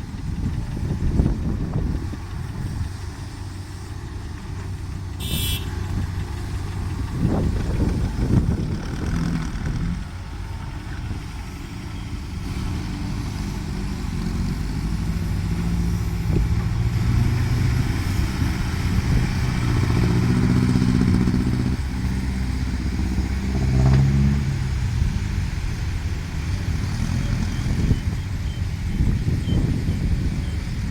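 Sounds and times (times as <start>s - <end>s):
heavy diesel machinery under load: 0.0s - 30.9s.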